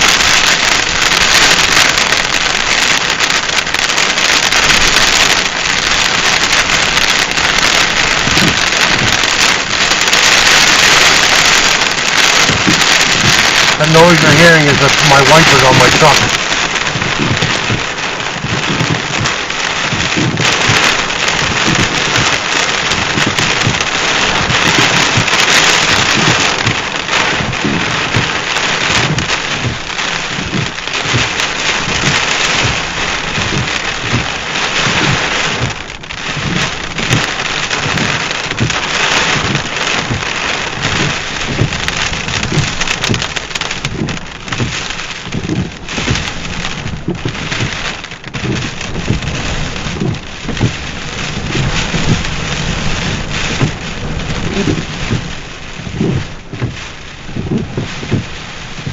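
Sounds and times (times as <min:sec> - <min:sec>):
heavy rain on vehicle roof: 0:00.0 - 0:58.9
windshield wipers running: 0:00.0 - 0:58.9.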